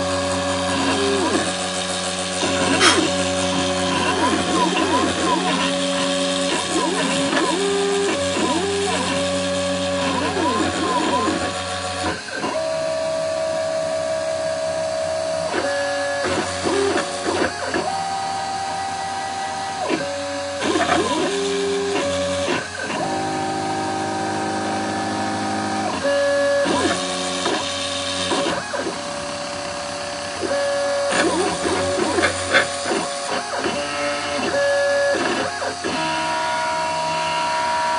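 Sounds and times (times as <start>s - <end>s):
stepper motors whining: 0.0s - 37.9s.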